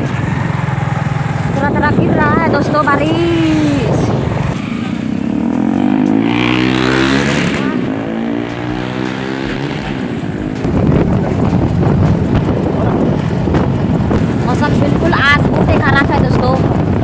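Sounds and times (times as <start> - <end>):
vehicle engine running: 0.0 - 17.0
wind rushing over microphone: 0.0 - 17.0.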